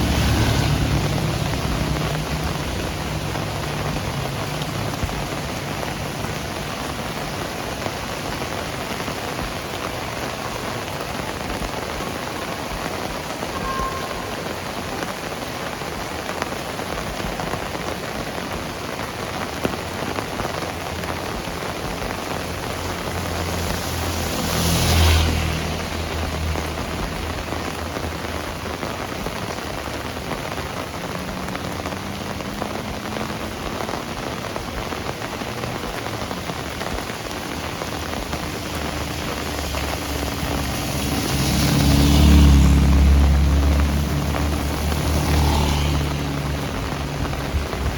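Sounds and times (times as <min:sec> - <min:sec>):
heavy rain: 0:00.0 - 0:47.9
vehicle passing on wet road: 0:00.0 - 0:47.9.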